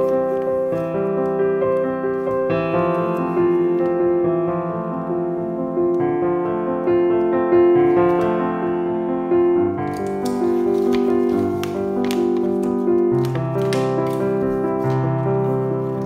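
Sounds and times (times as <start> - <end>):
piano tune: 0.0 - 16.0.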